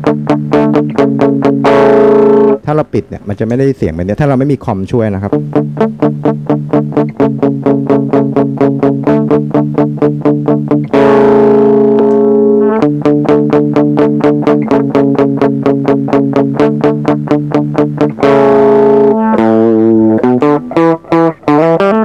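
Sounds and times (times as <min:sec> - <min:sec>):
electric guitar picked notes and chords: 0:00.0 - 0:02.7, 0:05.3 - 0:22.0.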